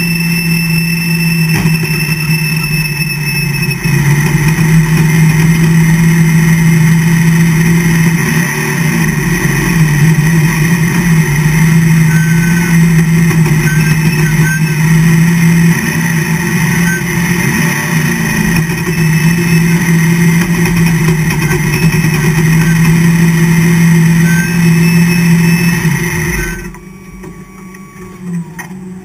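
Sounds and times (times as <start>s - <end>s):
race car engine at low revs: 0.0s - 29.0s.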